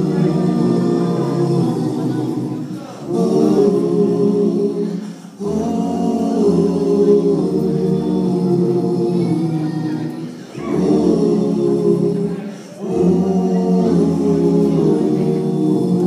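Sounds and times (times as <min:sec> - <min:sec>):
male vocal group singing in harmony: 0:00.0 - 0:16.0.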